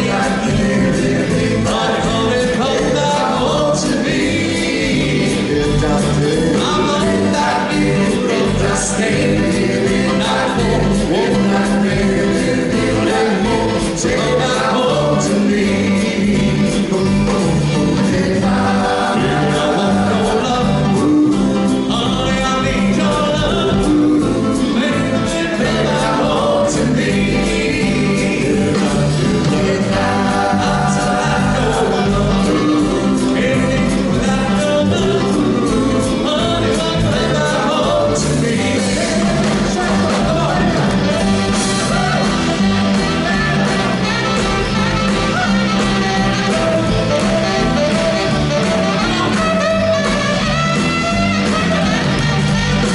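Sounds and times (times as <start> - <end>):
male vocal group singing harmony: 0.0 - 50.2
live backing band: 0.0 - 52.9.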